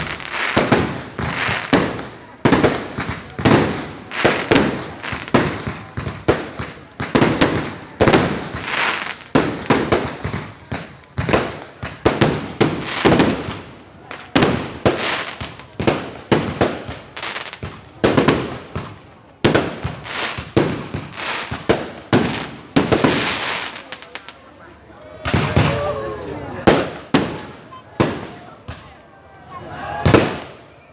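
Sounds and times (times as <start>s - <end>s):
fireworks bangs and crackling: 0.0s - 29.1s, 30.0s - 30.8s.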